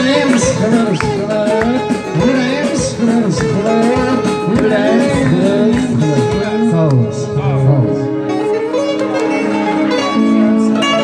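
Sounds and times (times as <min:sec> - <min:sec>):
amplified instrumental backing: 0:00.0 - 0:11.0.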